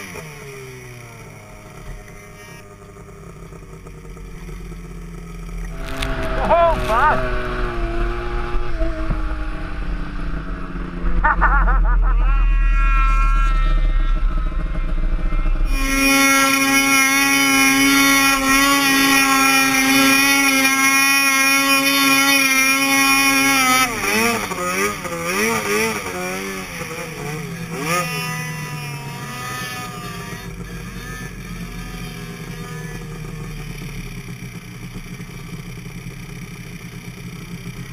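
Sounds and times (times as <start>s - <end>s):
snowmobile engine revving: 0.0s - 37.9s.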